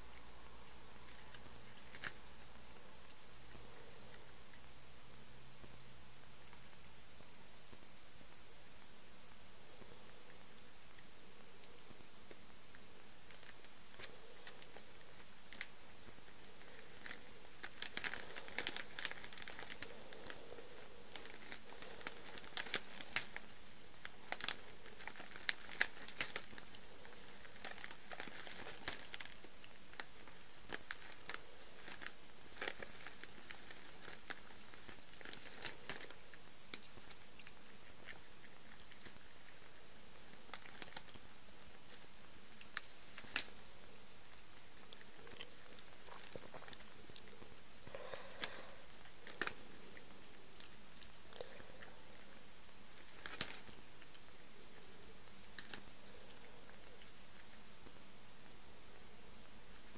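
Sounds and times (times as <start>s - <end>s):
cellophane crinkling and crackling: 0.0s - 4.8s, 10.0s - 59.9s.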